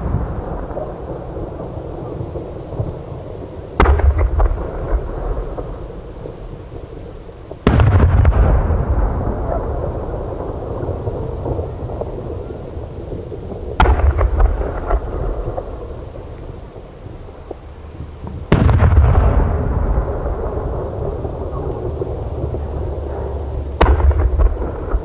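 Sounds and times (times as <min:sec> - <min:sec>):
firework shells booming: 0:00.0 - 0:25.0
smaller firework cracks: 0:00.0 - 0:25.0.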